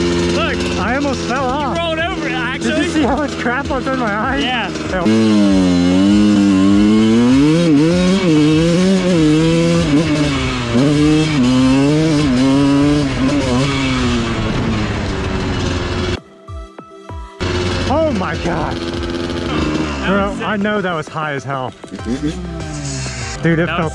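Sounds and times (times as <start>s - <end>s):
motocross bike engine revving: 0.0s - 16.2s, 17.4s - 23.9s.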